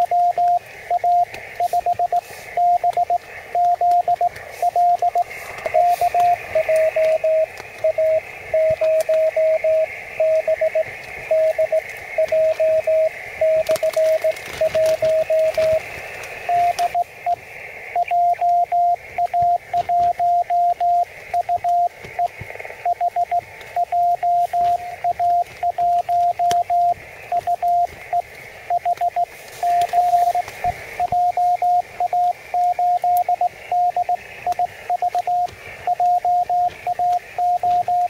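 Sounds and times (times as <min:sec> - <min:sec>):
morse code tone keyed: 0:00.0 - 0:15.8, 0:16.4 - 0:17.4, 0:18.0 - 0:38.0
radio band noise hiss: 0:00.0 - 0:38.0.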